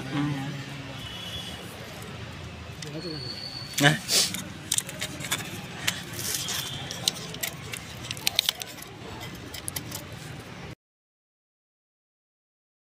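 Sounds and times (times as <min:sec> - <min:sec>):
faint steady background noise: 0:00.0 - 0:10.8.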